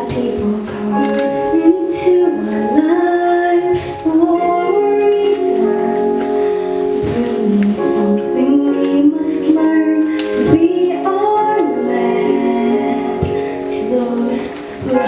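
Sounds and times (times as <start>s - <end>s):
instrumental accompaniment: 0.0s - 15.0s
woman singing: 0.0s - 15.0s.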